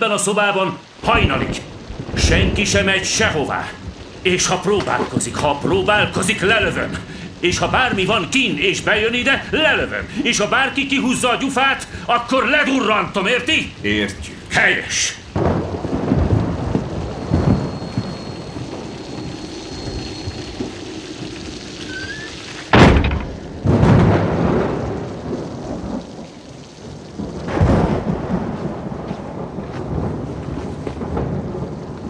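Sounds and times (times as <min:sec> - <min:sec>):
heavy rain pouring: 0:00.0 - 0:32.0
thunder cracking and rumbling: 0:00.8 - 0:32.0.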